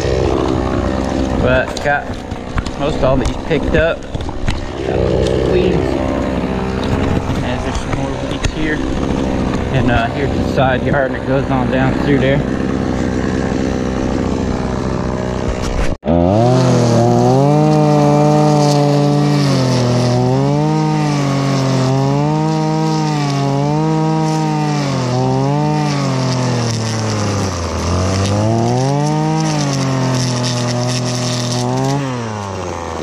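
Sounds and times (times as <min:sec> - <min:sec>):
string trimmer engine running: 0:00.0 - 0:33.0.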